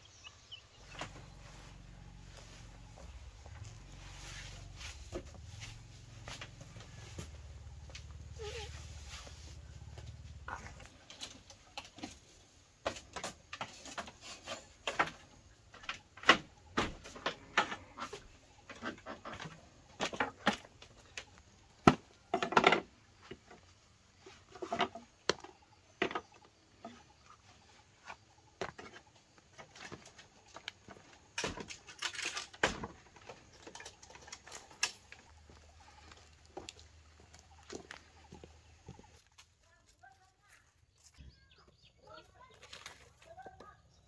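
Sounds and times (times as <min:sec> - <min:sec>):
footsteps on bamboo floor: 0:00.8 - 0:22.0, 0:23.2 - 0:43.8.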